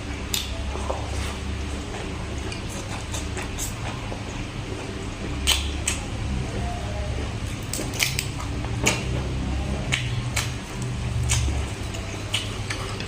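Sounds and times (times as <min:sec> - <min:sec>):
mouth clicks and crunches: 0:00.1 - 0:06.2, 0:07.4 - 0:13.0
person chewing: 0:00.2 - 0:06.1, 0:07.4 - 0:13.0.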